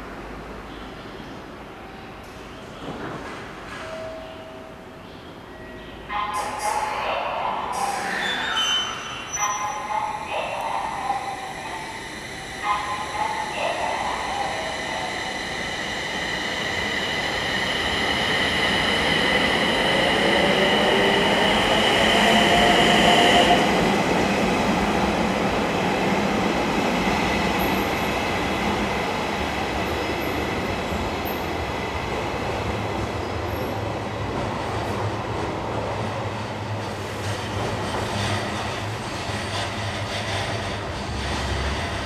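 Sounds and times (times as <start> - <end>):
train running on rails: 0.0 - 42.0.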